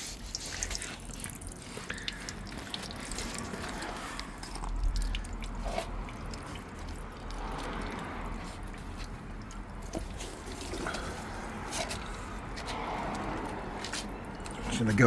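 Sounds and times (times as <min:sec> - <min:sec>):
water dripping and trickling: 0:00.0 - 0:15.0
water sloshing: 0:00.0 - 0:15.0.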